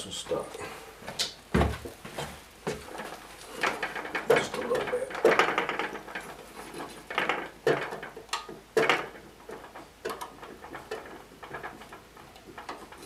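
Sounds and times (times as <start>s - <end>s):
band saw wheel knocking and rattling: 1.6s - 13.0s.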